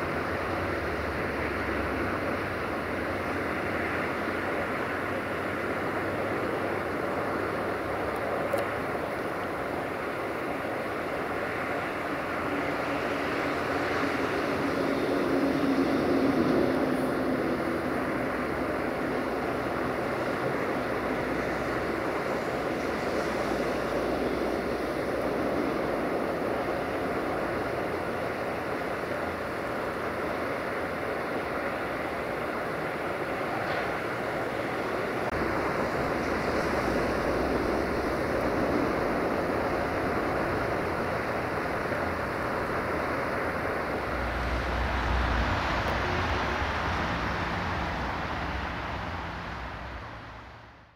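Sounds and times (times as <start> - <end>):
distant train rumble: 0.0 - 50.9
wind noise on microphone: 0.0 - 50.9.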